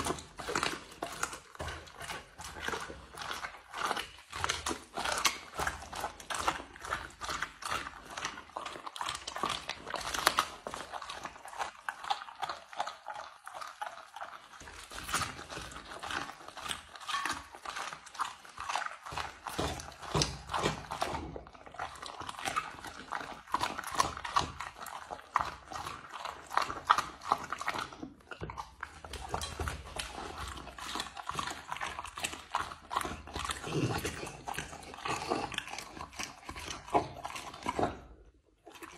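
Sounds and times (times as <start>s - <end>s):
dog chewing and licking: 0.0s - 38.9s.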